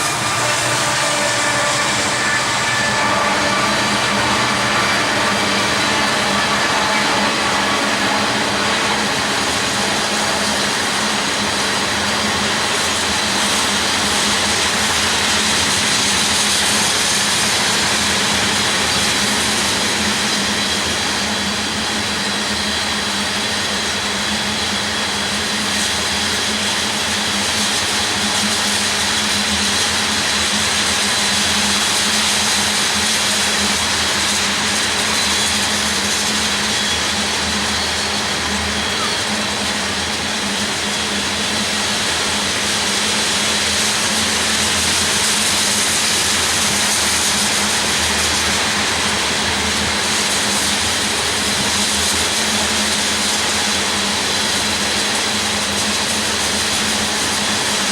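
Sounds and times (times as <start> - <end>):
freight train wheels on rail: 0.0 - 57.9.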